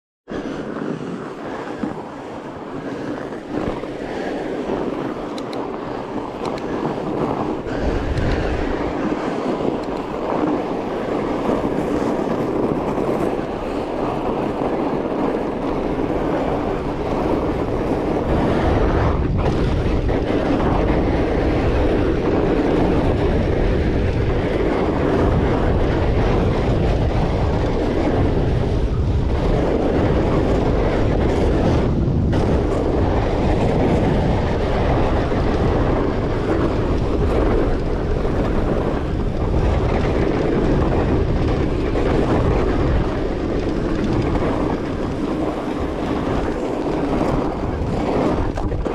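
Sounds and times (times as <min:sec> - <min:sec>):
bike tyres rolling on trail: 0:00.3 - 0:48.9
wind noise on microphone: 0:00.3 - 0:48.9.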